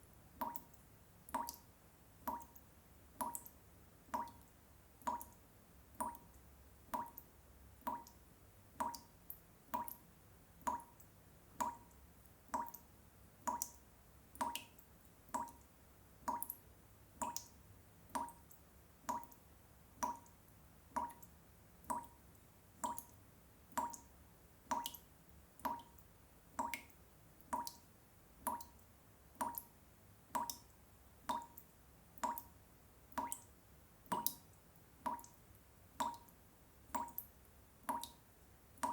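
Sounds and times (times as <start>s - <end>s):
water drops dripping into water: 0.4s - 16.6s, 17.2s - 38.2s.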